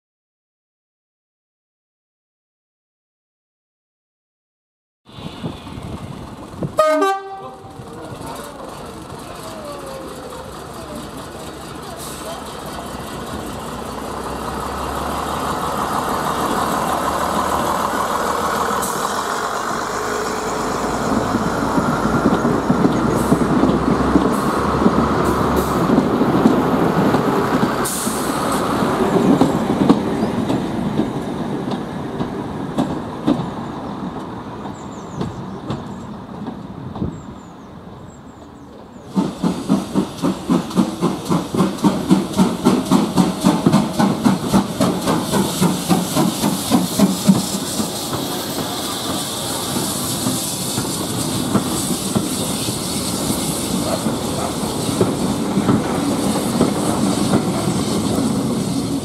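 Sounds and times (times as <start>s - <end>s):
steam locomotive chuffing: 5.1s - 33.6s, 39.0s - 59.0s
diesel train engines: 5.1s - 59.0s
train wheels clattering on rail: 5.4s - 37.4s, 38.4s - 59.0s.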